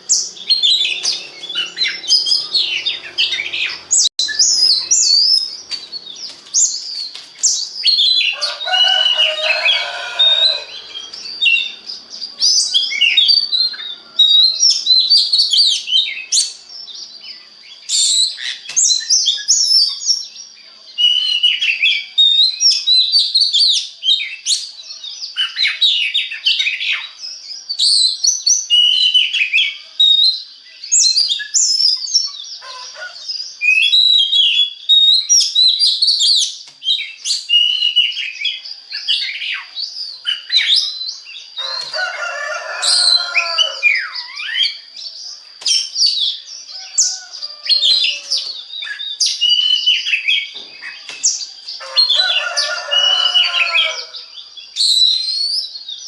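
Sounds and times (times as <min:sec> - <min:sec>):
bird singing chirps and trills: 0:00.0 - 0:56.0.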